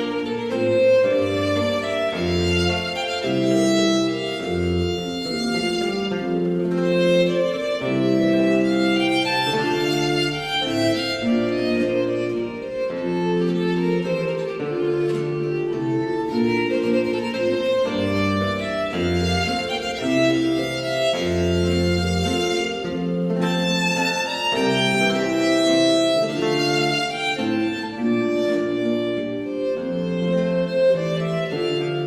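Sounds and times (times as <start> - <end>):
bowed strings music: 0.0 - 32.0.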